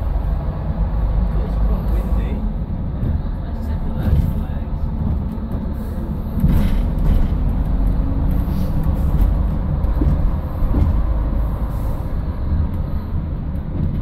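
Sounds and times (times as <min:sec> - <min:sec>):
diesel train engine rumble: 0:00.0 - 0:14.0.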